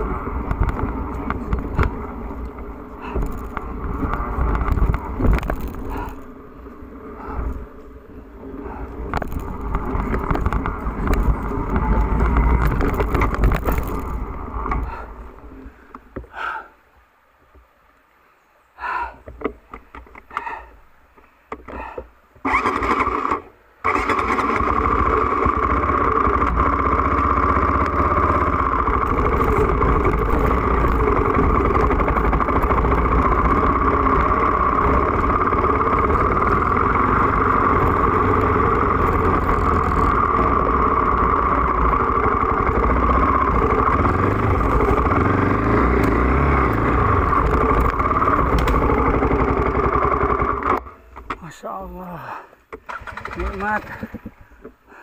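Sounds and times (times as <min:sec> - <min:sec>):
dirt bike engine running: 0:00.0 - 0:15.2, 0:22.4 - 0:51.1, 0:52.8 - 0:55.0.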